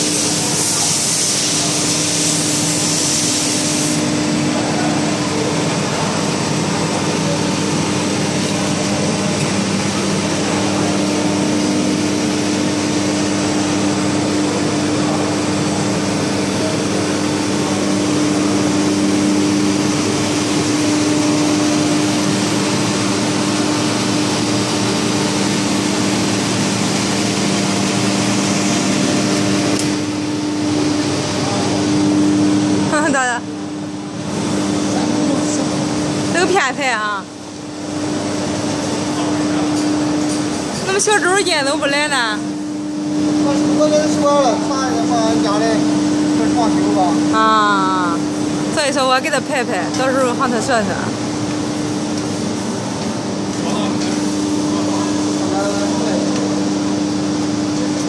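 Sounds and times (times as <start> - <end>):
machinery humming: 0.0 - 58.0.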